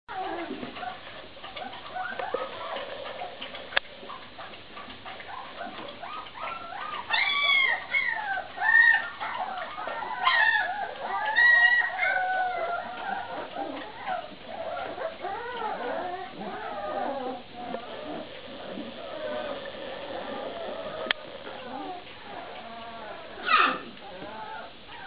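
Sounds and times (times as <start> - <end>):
puppies whining and yelping: 0.1 - 25.0.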